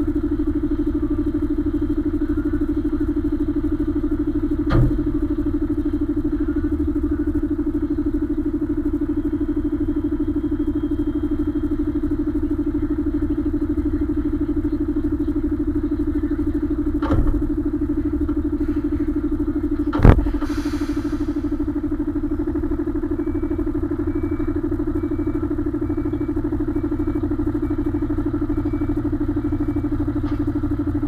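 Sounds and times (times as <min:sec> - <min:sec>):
diesel truck engine idling: 0:00.0 - 0:31.0.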